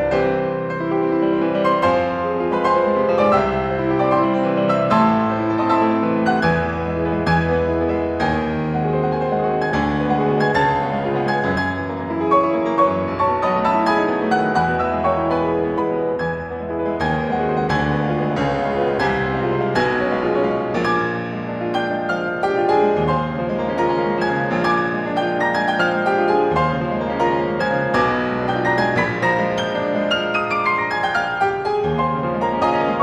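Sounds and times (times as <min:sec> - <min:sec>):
piano music: 0:00.0 - 0:33.0.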